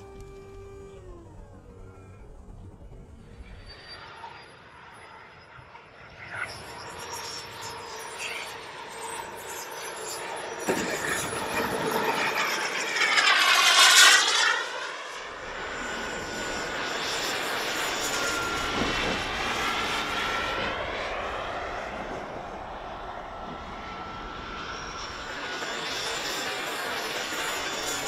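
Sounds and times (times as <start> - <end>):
model jet turbine rush: 0.0 - 28.0
thin turbine whine: 0.0 - 28.0.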